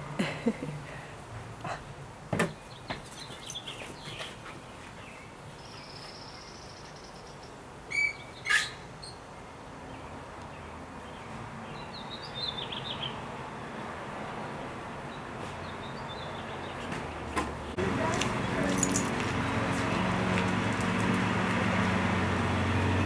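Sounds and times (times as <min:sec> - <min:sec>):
songbirds chirping and trilling: 0:00.3 - 0:23.0.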